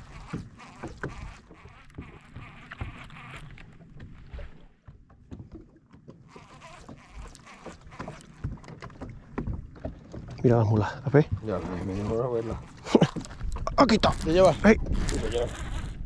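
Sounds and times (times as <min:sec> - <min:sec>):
water and wind wash: 0:00.0 - 0:16.0.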